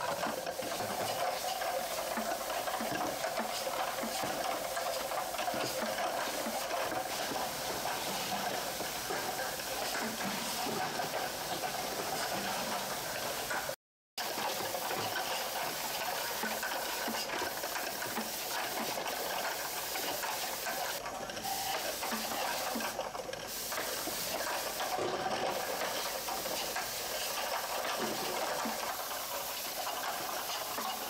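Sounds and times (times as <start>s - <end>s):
bottle machine hiss and rattling: 0.0s - 31.0s.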